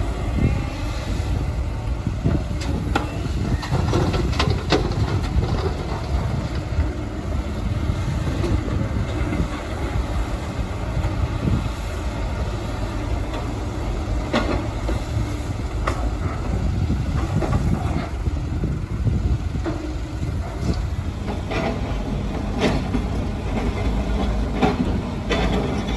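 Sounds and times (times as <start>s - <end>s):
heavy diesel engines rumbling: 0.0s - 25.9s.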